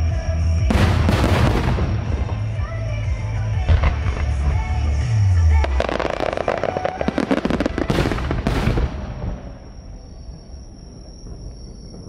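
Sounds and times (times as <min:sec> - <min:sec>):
fireworks crackling and banging: 0:00.6 - 0:12.0.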